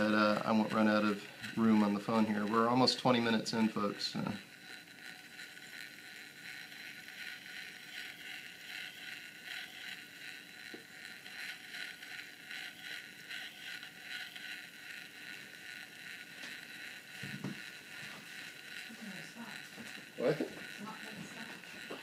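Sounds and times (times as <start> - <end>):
straw scratching on spinning rotor: 0.0 - 22.0.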